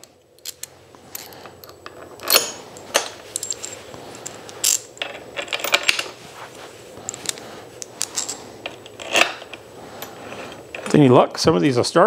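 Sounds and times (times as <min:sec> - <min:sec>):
metal bolts and washers clinking: 0:00.0 - 0:06.2, 0:07.1 - 0:11.1.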